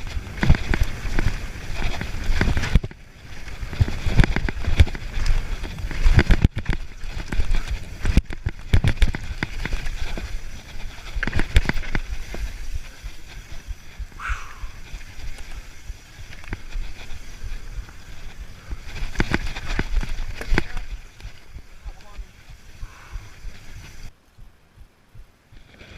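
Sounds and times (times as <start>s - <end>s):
mountain bike rattling: 0.0s - 24.1s
wind buffeting microphone: 0.0s - 25.3s.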